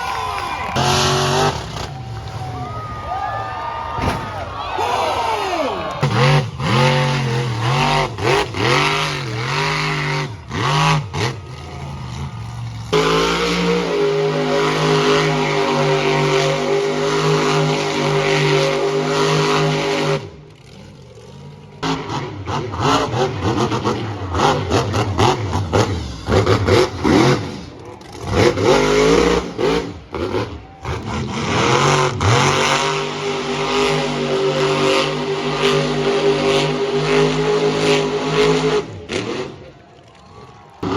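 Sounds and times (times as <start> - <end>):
monster truck engines revving: 0.0 - 40.9.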